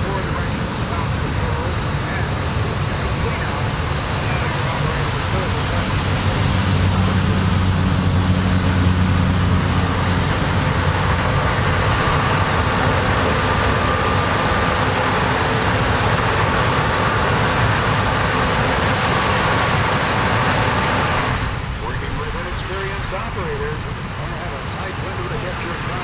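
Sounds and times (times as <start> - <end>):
combine harvester engine hum: 0.0 - 26.0
high steady machine whine: 0.0 - 26.0.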